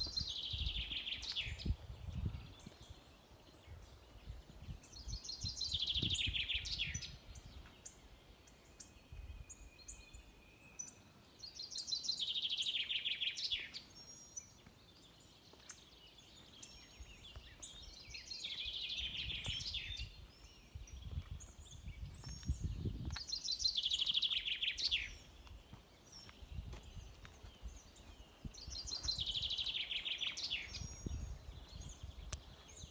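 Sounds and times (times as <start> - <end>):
songbird singing: 0.0 - 32.9.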